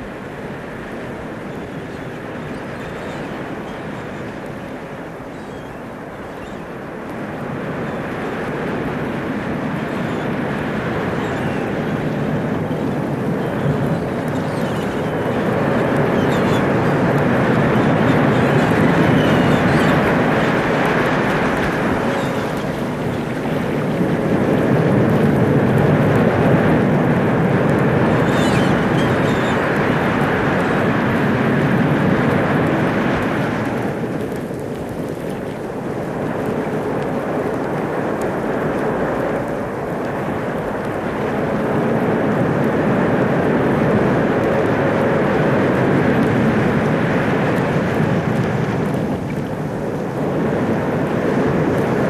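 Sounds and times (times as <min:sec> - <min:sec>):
waves breaking on beach: 0:00.0 - 0:52.0.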